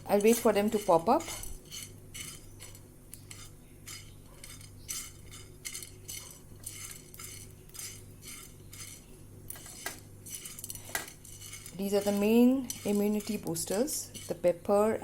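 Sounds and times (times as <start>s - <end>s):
spoon scraping spices in pan: 0.0s - 15.0s.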